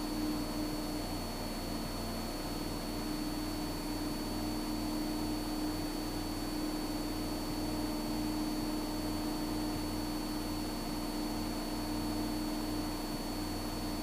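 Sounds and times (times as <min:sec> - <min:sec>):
aircraft engine and propeller drone: 0:00.0 - 0:14.0.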